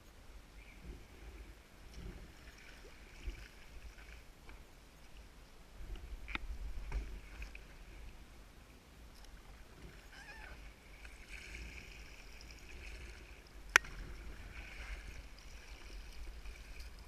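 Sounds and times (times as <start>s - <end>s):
water lapping and splashing: 0.6s - 17.0s.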